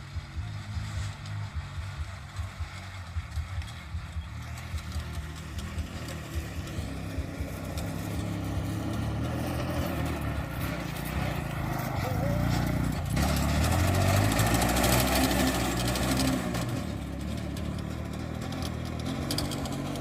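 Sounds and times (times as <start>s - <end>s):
small motorcycle engine pulsing: 0.0s - 20.0s.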